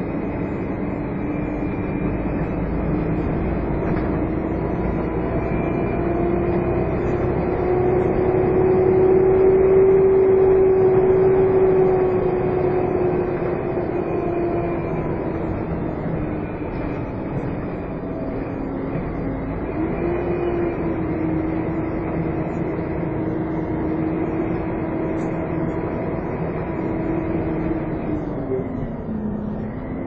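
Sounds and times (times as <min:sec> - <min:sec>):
bus engine whine: 0:00.0 - 0:30.0
road rumble: 0:00.0 - 0:30.0.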